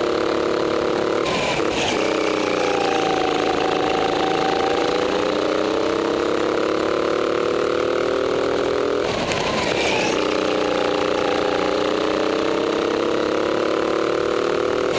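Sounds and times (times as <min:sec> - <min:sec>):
go-kart engine accelerating: 0:00.0 - 0:14.9.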